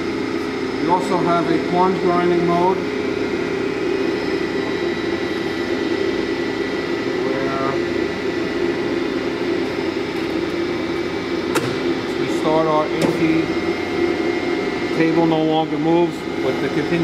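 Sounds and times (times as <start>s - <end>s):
grinder machine humming: 0.0s - 17.0s.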